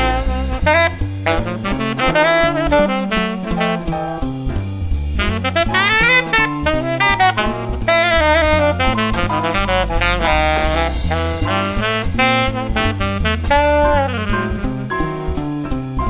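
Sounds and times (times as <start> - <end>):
drums: 0.0 - 16.0
saxophone jazz solo: 0.0 - 16.0
walking bass: 0.0 - 16.0.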